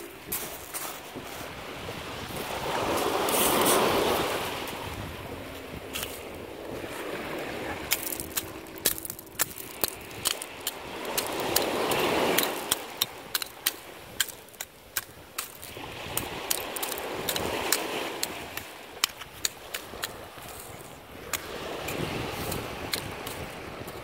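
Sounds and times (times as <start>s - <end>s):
small waves washing in: 0.0s - 24.0s.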